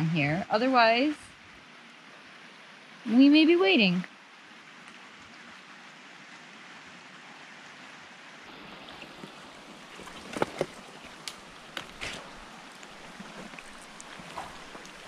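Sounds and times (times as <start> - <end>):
stream running over rocks: 0.0 - 15.0.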